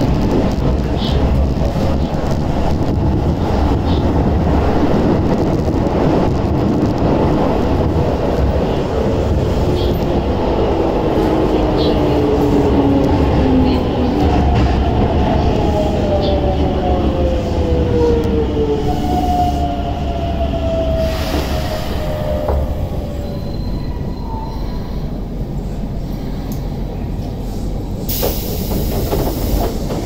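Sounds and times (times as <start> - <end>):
train rumbling in tunnel: 0.0 - 30.0.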